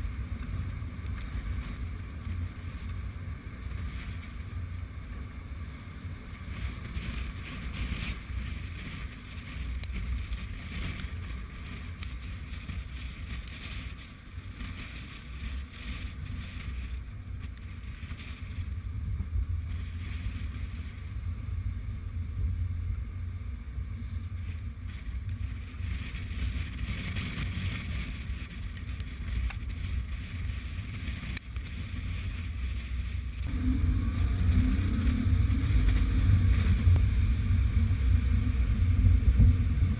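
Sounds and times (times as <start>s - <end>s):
gusty wind buffeting microphone: 0.0s - 39.9s.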